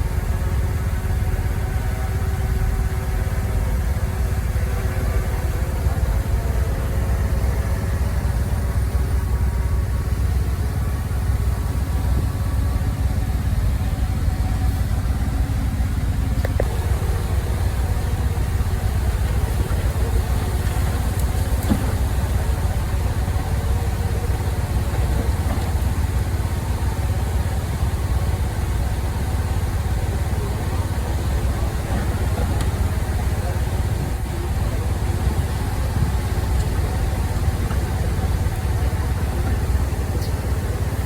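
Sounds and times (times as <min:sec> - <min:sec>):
heavy machinery engine rumbling: 0:00.0 - 0:41.0.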